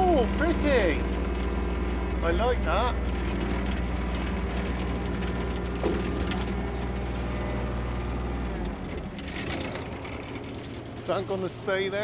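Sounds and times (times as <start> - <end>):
engine running with clatter: 0.0 - 12.0.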